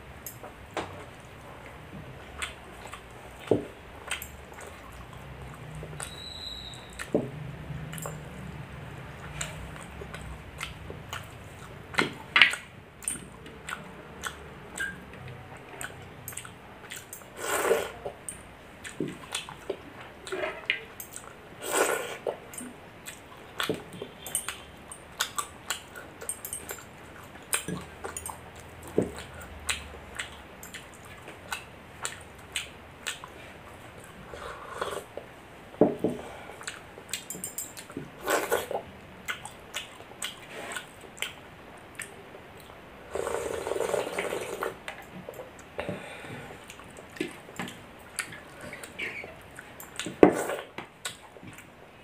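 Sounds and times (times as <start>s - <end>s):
wet chewing and lip smacks: 2.2s - 18.2s, 18.8s - 35.3s, 36.6s - 42.9s, 46.6s - 51.7s.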